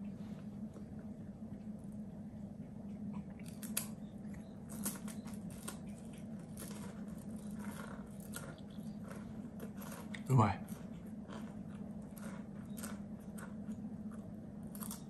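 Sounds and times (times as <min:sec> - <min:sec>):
steady low hum: 0:00.0 - 0:15.0
cracker being chewed: 0:00.6 - 0:15.0.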